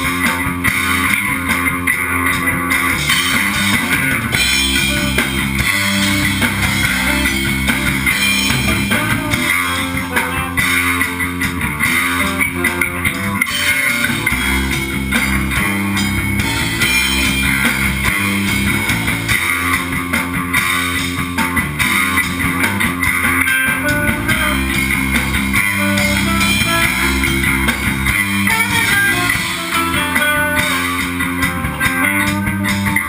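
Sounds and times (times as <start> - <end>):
drum kit with crashing cymbals: 0.0 - 33.0
electric bass guitar: 0.0 - 33.0.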